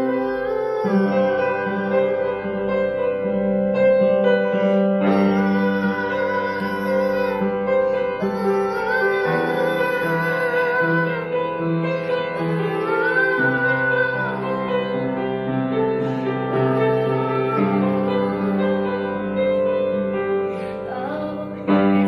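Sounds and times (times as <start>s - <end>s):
girl singing long notes: 0.0s - 3.1s, 4.5s - 19.6s, 20.5s - 22.0s
piano chords: 0.0s - 22.0s.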